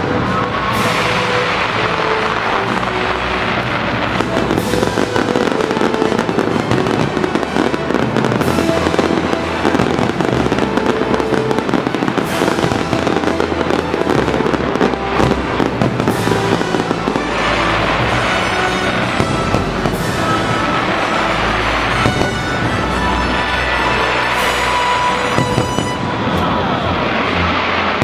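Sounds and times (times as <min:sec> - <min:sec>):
fireworks bangs and crackling: 0:00.0 - 0:28.0
music playing: 0:00.0 - 0:28.0.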